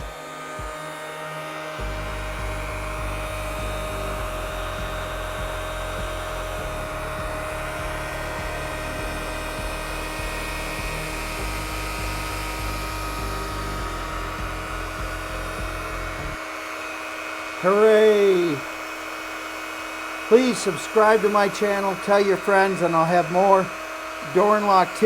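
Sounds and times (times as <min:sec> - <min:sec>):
key duplicating machine motor humming: 0:01.8 - 0:25.0.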